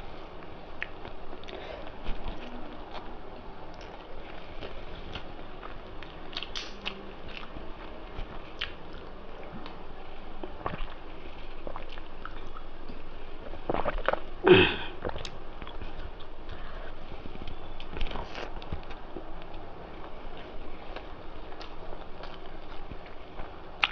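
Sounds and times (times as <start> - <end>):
chewing and mouth clicks: 0.8 - 9.8, 10.4 - 14.2, 15.0 - 23.9.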